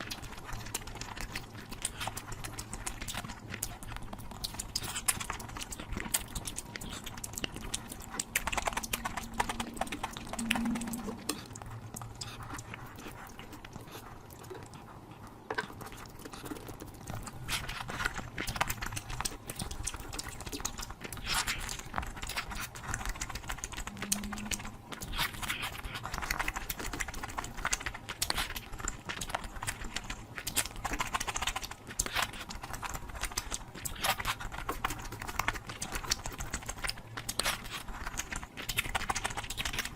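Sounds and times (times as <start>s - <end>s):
person chewing with wet smacks: 0.0s - 39.9s.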